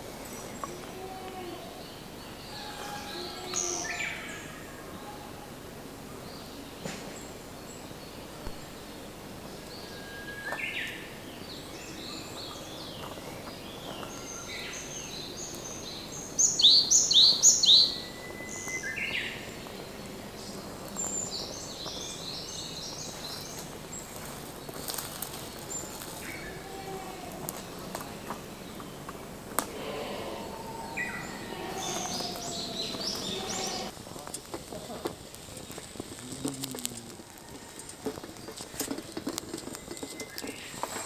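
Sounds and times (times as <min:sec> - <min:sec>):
steady background hiss: 0:00.0 - 0:38.0
songbirds chirping: 0:00.0 - 0:41.0.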